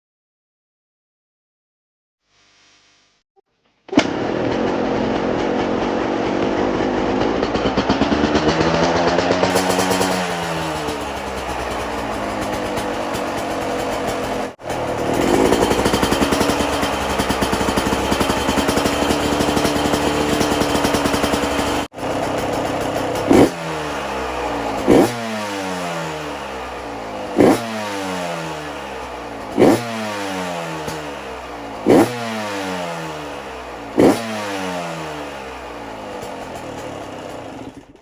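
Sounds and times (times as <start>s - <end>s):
two-stroke motorcycle engine revving: 3.9s - 38.0s.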